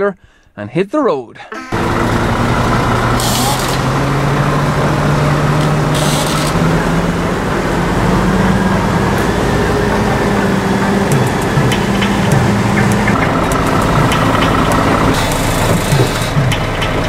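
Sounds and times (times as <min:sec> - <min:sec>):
diesel truck engine running: 0:01.7 - 0:17.0.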